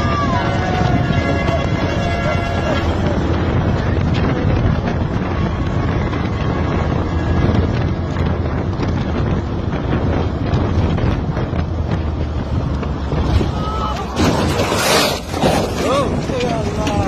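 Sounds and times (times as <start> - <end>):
low rumble of road and engine: 0.0 - 17.0
wind buffeting microphone: 0.0 - 17.0.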